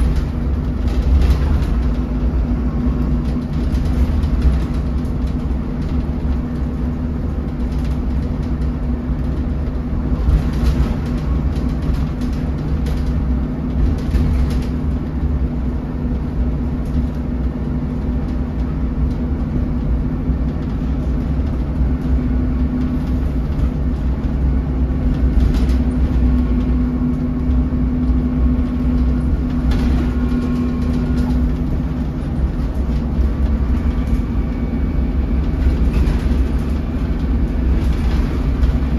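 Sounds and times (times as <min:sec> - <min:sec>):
bus engine drone: 0:00.0 - 0:38.9
road noise: 0:00.0 - 0:38.9.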